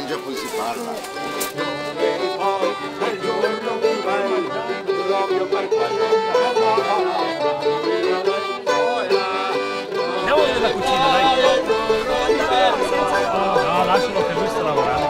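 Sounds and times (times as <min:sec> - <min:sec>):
man singing: 0:00.0 - 0:15.0
piano accordion folk tune: 0:00.0 - 0:15.0.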